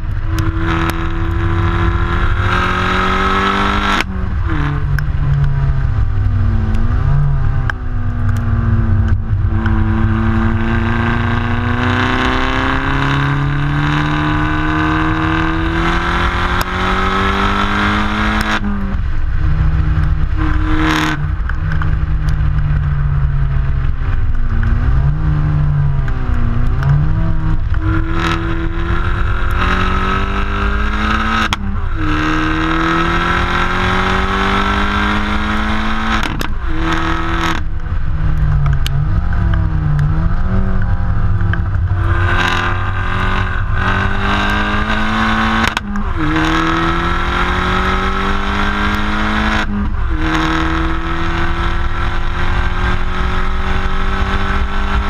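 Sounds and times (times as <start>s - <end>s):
car exhaust revving: 0.0s - 55.0s
wind and road noise rumble: 0.0s - 55.0s.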